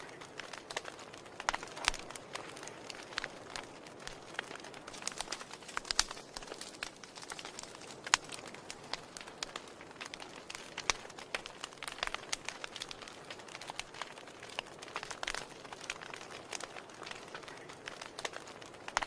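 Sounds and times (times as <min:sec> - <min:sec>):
soft steady hiss: 0:00.0 - 0:19.0
wood fire crackling and popping: 0:00.0 - 0:19.0.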